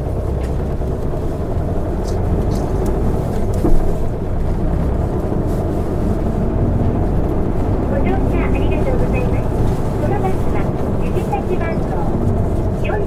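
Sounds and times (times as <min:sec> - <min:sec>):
light knocks and rattles: 0:00.0 - 0:11.3
bus diesel engine drone: 0:00.0 - 0:13.0
road noise: 0:00.0 - 0:13.0.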